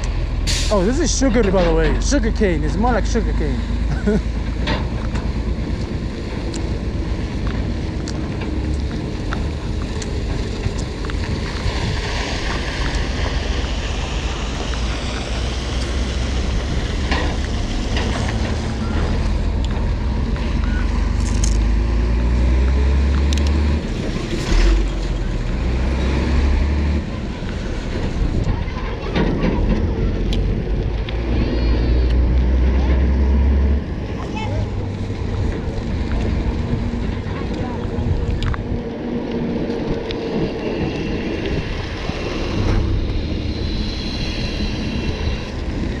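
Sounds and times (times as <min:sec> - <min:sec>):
road noise: 0:00.0 - 0:46.0
wind rumbling on microphone: 0:00.0 - 0:46.0.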